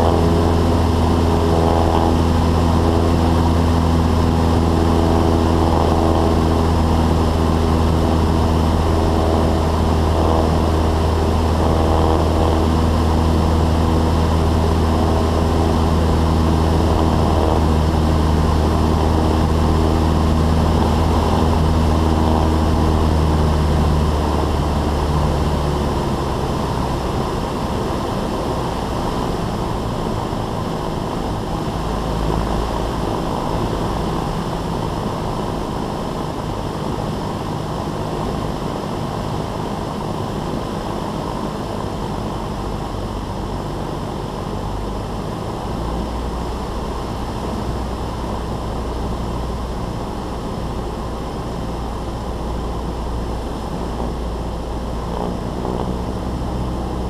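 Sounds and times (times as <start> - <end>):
small plane engine drone: 0.0 - 57.0.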